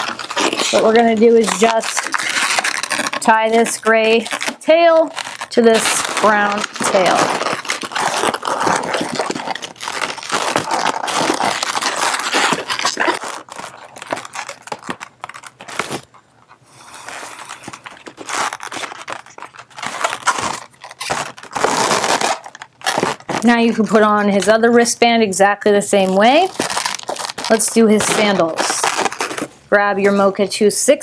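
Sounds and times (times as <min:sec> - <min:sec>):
rubber balloons rubbing and squeaking: 0:00.0 - 0:30.4.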